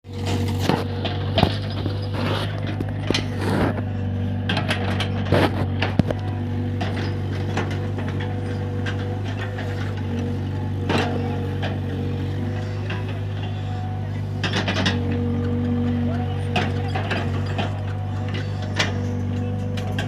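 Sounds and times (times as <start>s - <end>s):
excavator engine running: 0.1s - 20.0s.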